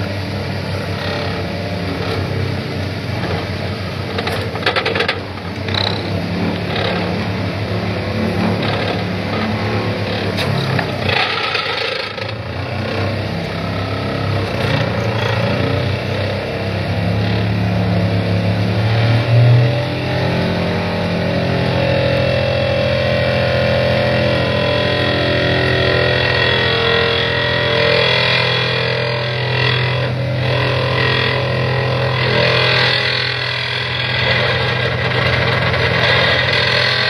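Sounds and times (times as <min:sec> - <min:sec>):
diesel engine: 0:00.0 - 0:37.0
vibratory pile hammer drone: 0:00.0 - 0:37.0.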